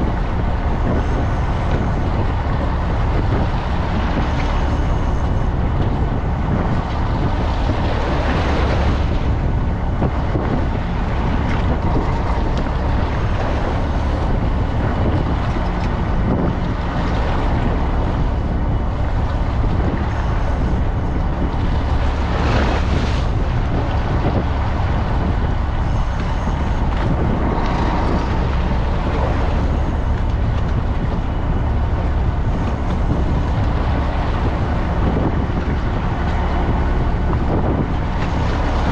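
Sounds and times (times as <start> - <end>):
boat engine humming: 0.0 - 38.9
water rushing along hull: 0.0 - 38.9
wind buffeting microphone: 0.0 - 38.9.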